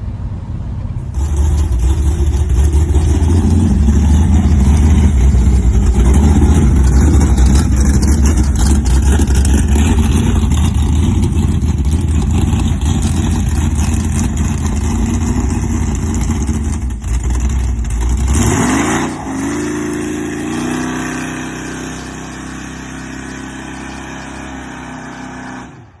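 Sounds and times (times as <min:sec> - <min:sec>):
pickup truck engine revving: 0:00.0 - 0:26.0.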